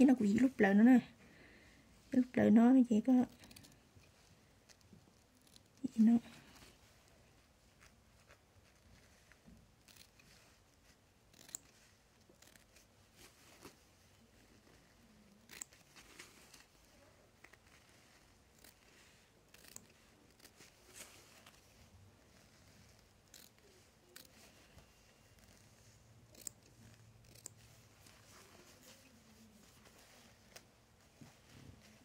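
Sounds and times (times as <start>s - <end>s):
clicks and rustles of needlework: 3.1s - 32.0s.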